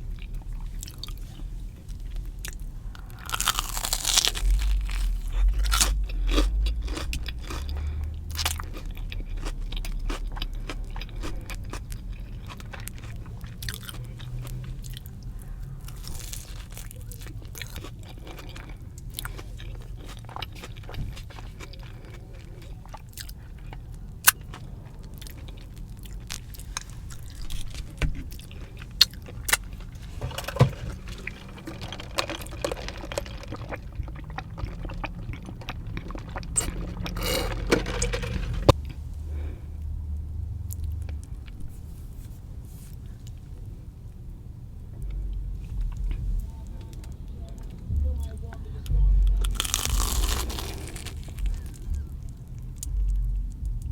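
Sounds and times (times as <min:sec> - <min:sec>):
crunching and chewing food: 0:00.0 - 0:53.9.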